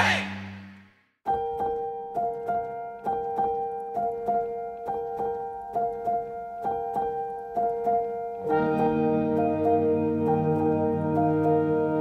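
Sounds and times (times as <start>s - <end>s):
keyboard tune: 1.3s - 12.0s.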